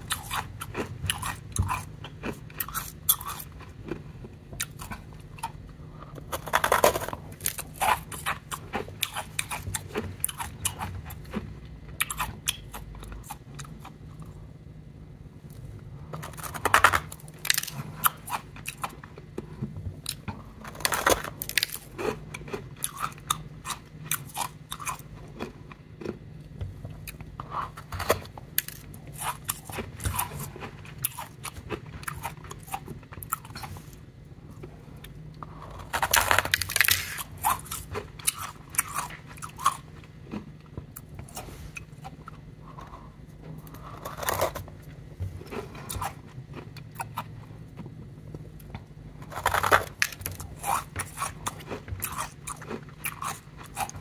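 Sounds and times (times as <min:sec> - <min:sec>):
faint low hum: 0:00.0 - 0:54.0.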